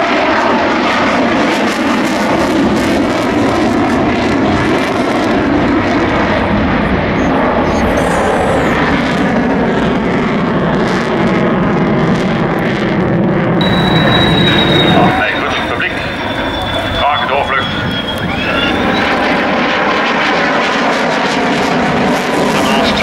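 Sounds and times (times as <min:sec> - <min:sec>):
aircraft engine in flight: 0:00.0 - 0:23.0.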